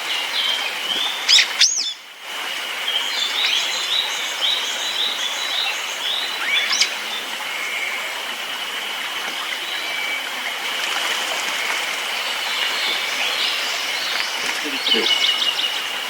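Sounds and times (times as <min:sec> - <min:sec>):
stream rushing: 0:00.0 - 0:16.0
songbird notes: 0:00.1 - 0:02.0, 0:02.8 - 0:08.1, 0:09.2 - 0:16.0.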